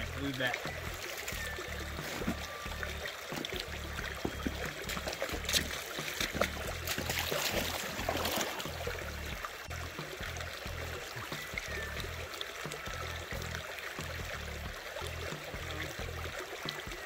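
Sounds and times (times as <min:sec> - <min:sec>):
creek water splashing: 0:00.0 - 0:17.0.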